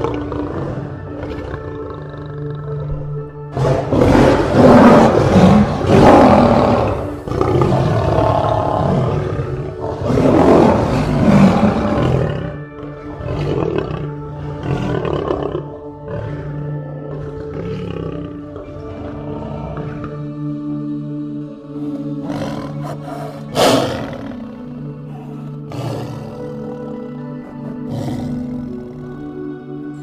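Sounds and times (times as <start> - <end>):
lion roaring and growling: 0.0 - 20.4, 21.7 - 29.5
background music with sustained tones: 0.0 - 30.0.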